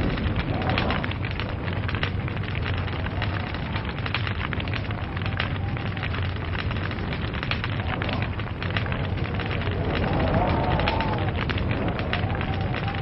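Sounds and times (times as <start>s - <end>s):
log fire crackling: 0.0s - 13.0s
low rumble: 0.0s - 13.0s.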